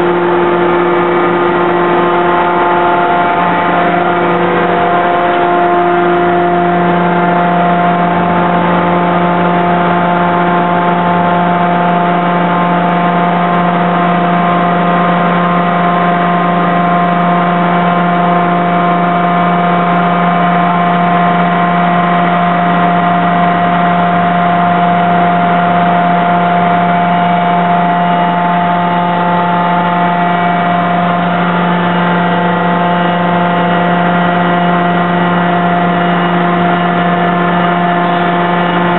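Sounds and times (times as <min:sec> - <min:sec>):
hydraulic machine humming: 0:00.0 - 0:38.9.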